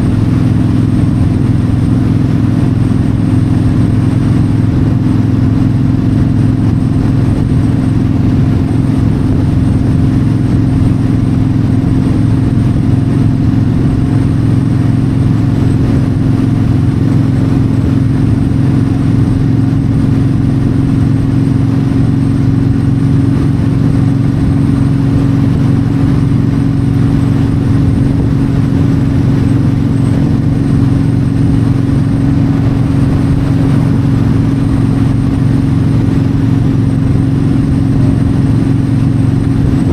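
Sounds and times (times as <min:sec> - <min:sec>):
motorcycle engine cruising: 0:00.0 - 0:39.9
wind rushing past microphone: 0:00.0 - 0:39.9.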